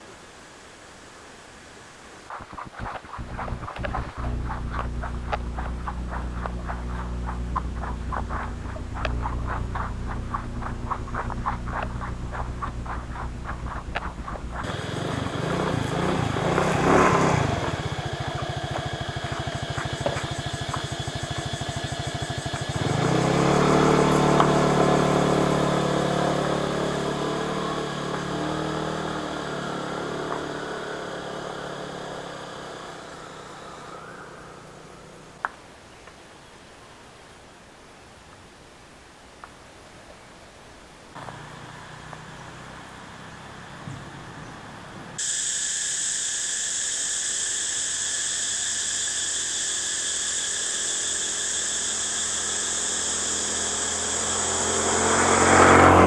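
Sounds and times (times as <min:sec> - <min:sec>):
engine running: 0:02.3 - 0:35.5, 0:41.2 - 0:56.0.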